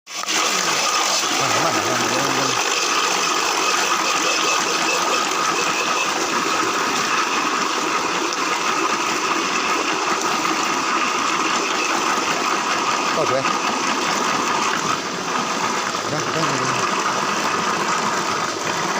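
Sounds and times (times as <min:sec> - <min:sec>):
grinding machine motor whine: 0:00.1 - 0:18.9.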